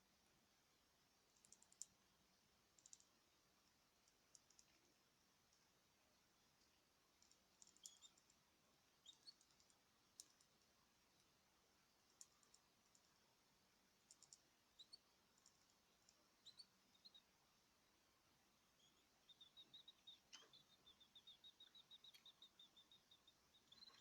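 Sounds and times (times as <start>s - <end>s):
small birds chirping: 1.3s - 2.1s, 2.7s - 3.4s, 4.0s - 5.7s, 6.6s - 24.0s.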